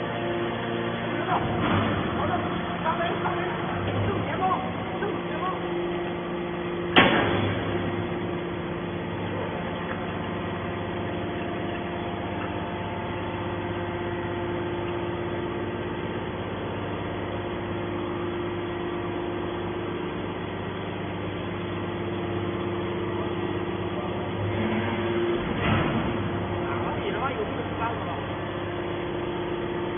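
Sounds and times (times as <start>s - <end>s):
scrap-metal baler humming: 0.0s - 29.9s.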